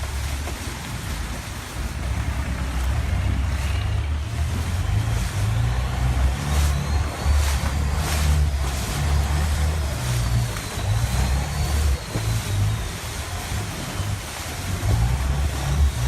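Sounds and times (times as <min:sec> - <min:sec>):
boat engine running: 0:00.0 - 0:16.0
water noise: 0:00.0 - 0:16.0
wind: 0:00.0 - 0:16.0.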